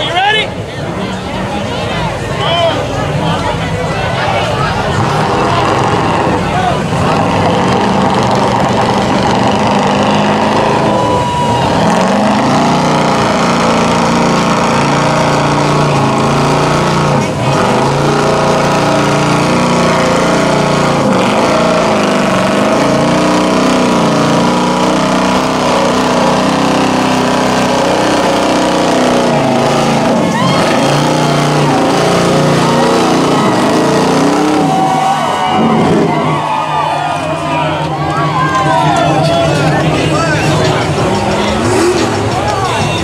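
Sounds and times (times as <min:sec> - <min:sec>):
crowd voices: 0:00.0 - 0:43.0
truck engine revving hard: 0:01.0 - 0:43.0.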